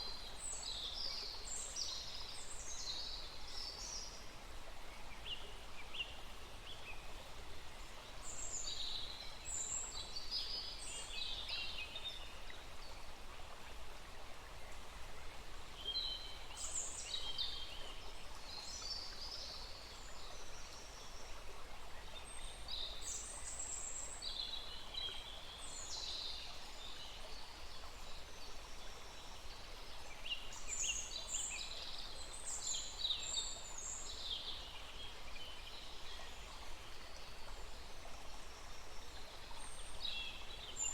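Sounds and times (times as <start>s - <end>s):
small stream rushing: 0.0s - 40.9s.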